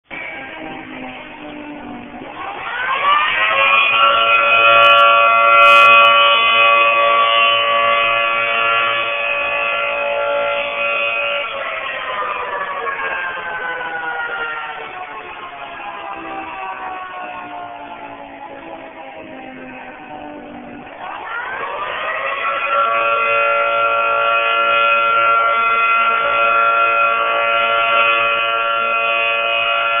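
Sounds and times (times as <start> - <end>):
tornado siren: 0.1 - 30.0.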